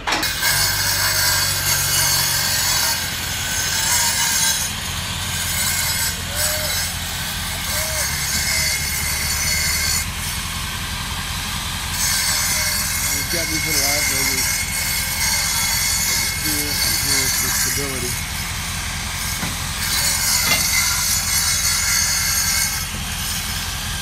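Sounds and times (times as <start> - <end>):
concrete saw grinding whine: 0.0 - 24.0.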